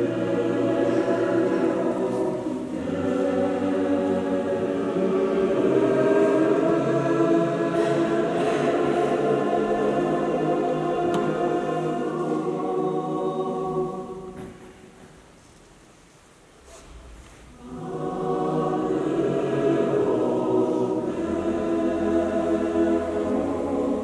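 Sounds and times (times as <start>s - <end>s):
mixed choir singing: 0.0s - 14.8s, 17.5s - 24.0s.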